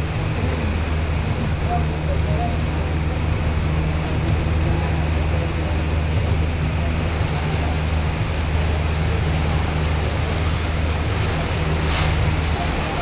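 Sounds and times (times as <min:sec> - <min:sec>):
boat engine humming: 0:00.0 - 0:13.0
rushing water and air: 0:00.0 - 0:13.0.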